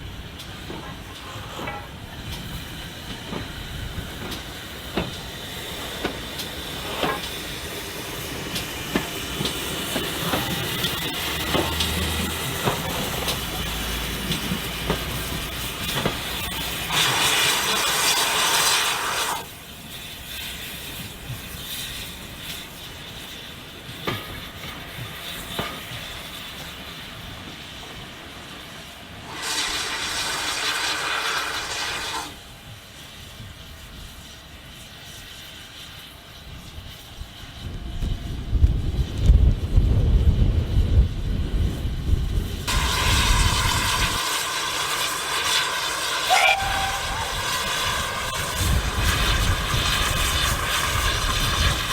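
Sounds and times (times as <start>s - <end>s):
steam hiss bursts: 0.0s - 37.7s, 42.4s - 51.9s
train running noise: 0.0s - 51.9s.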